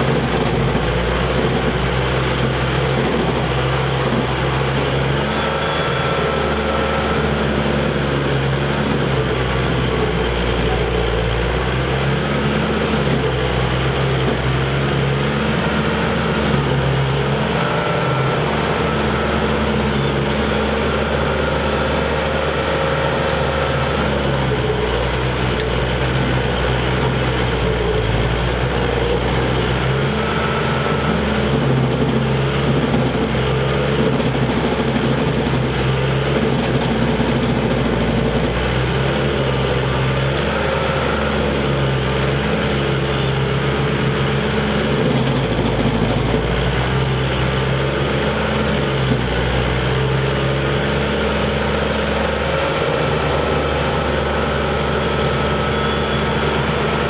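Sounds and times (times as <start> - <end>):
engine running: 0.0 - 57.0
stump grinder grinding: 0.0 - 57.0.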